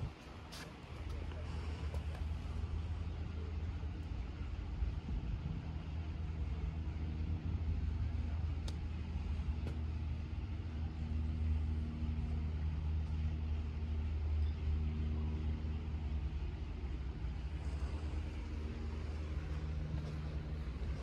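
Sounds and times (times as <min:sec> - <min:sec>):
faint mechanical hum: 0:00.0 - 0:21.0
low outdoor rumble: 0:00.0 - 0:21.0.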